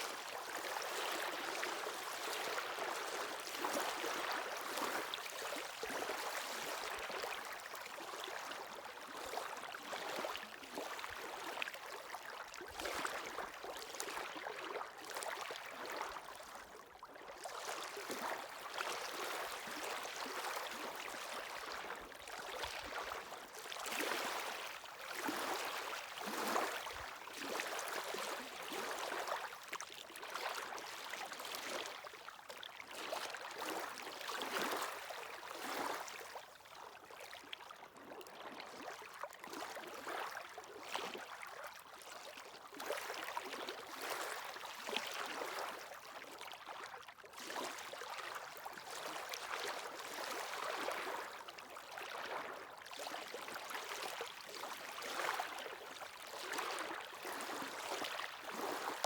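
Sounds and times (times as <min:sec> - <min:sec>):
small waves lapping on shore: 0:00.0 - 0:59.0.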